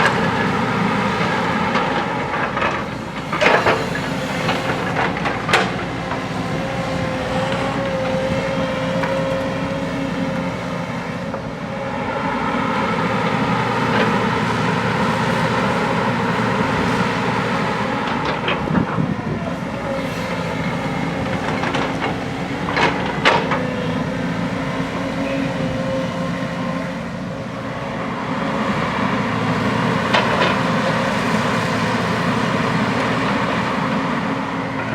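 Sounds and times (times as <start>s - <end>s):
diesel engine under load: 0.0s - 34.9s
hydraulic whine: 0.0s - 34.9s.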